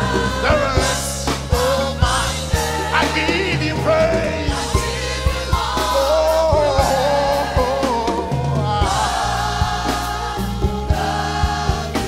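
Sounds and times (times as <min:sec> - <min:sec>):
band with bass and drums: 0:00.0 - 0:12.0
voices singing in harmony: 0:00.0 - 0:12.0.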